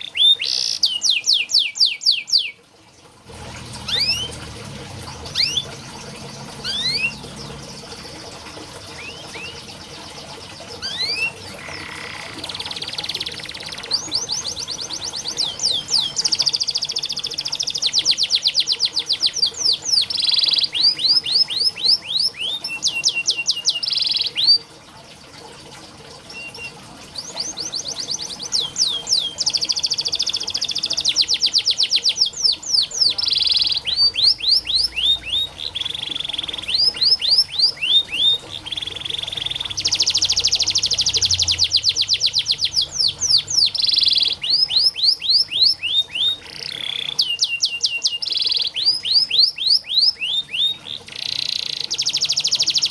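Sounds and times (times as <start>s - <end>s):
canary singing: 0.0s - 2.6s, 3.6s - 24.7s, 26.3s - 52.9s.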